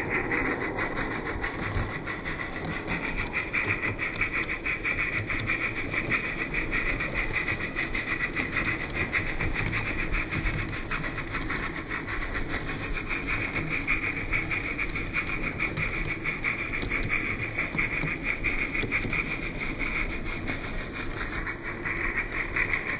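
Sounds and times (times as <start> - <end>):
slowed steam chuffs: 0.0 - 22.9
steam hiss: 0.0 - 22.9.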